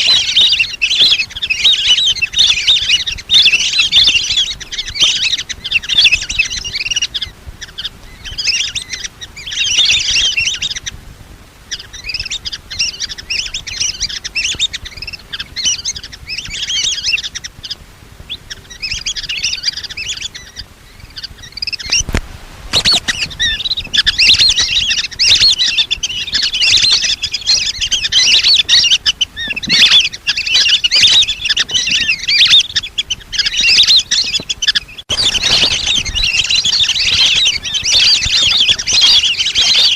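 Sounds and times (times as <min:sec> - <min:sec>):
ducks whistling: 0:00.0 - 0:11.0, 0:11.7 - 0:39.9.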